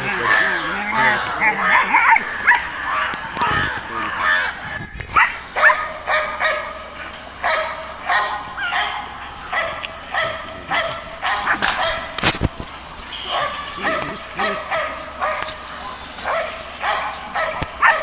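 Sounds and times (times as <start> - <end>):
puppies yipping and barking: 0.0 - 18.0.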